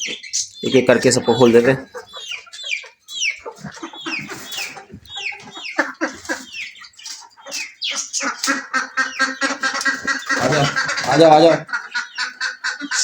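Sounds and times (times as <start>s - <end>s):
birds chirping: 0.0s - 13.0s
fowl clucking: 0.0s - 13.0s.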